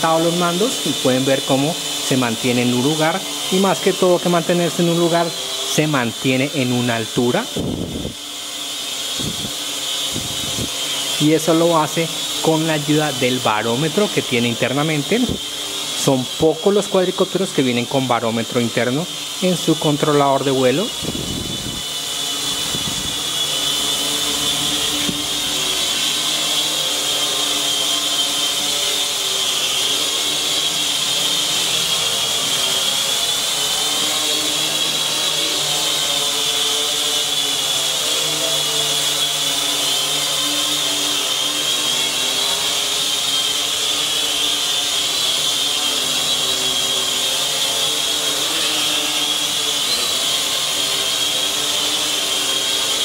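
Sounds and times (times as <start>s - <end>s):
drone propellers whining: 0.0s - 53.0s.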